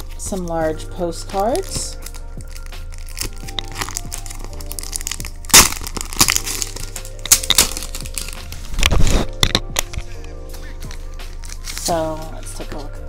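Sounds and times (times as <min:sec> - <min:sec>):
background music: 0:00.0 - 0:13.0
plastic sleeve crinkling: 0:01.4 - 0:13.0.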